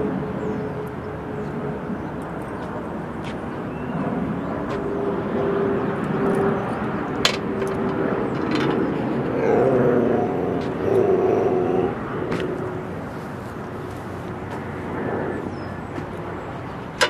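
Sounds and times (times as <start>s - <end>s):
faint distant drone: 0.0s - 17.0s.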